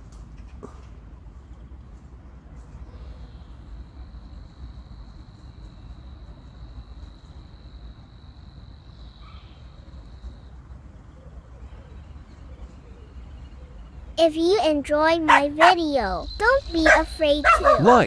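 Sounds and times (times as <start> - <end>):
constant low rumble: 0.0 - 18.0.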